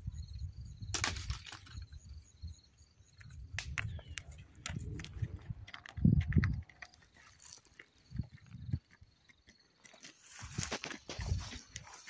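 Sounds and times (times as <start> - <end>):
insects chirping in trills: 0.0 - 12.0.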